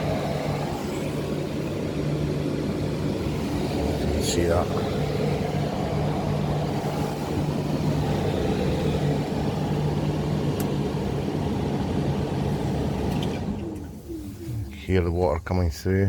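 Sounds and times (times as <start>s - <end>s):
fan blowing air through vent: 0.0s - 15.7s
steady hum: 0.0s - 16.0s.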